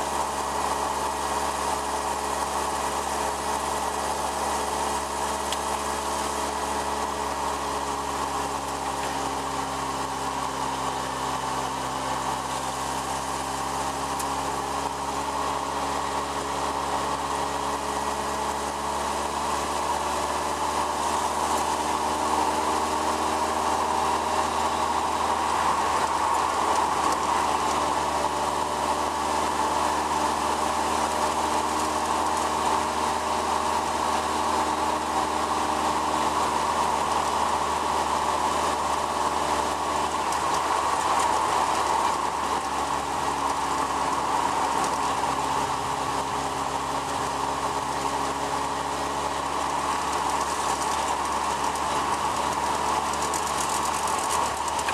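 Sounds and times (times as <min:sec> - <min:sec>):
car engine running: 0:00.0 - 0:54.9
wind and road noise: 0:00.0 - 0:54.9.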